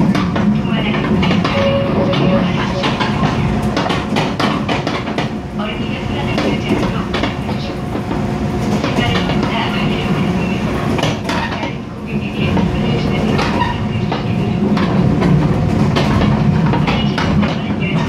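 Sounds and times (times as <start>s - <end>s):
rail clicks: 0.0s - 18.0s
train wheels on rails: 0.0s - 18.0s.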